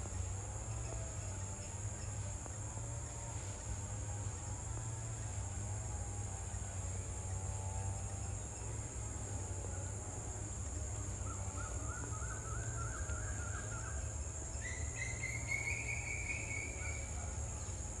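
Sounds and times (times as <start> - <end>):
insect hiss: 0.0 - 18.0.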